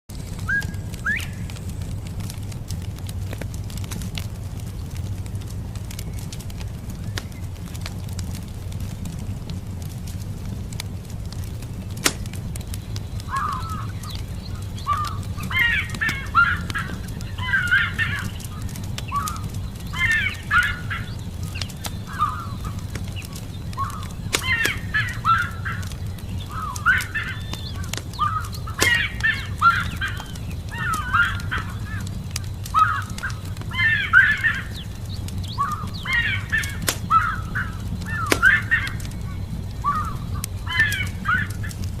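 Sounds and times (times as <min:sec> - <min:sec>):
campfire crackling and popping: 0:00.1 - 0:42.0
steady low rumble: 0:00.1 - 0:42.0
birds chattering: 0:00.2 - 0:08.4, 0:11.0 - 0:42.0.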